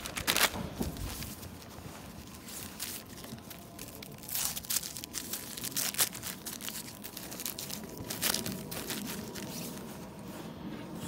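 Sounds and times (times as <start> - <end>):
wrapper crinkling and tearing: 0.0 - 10.1.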